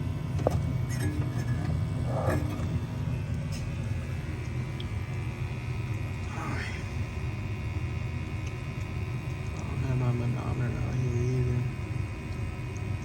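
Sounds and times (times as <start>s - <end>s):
furnace blower fan rumble: 0.0s - 13.0s.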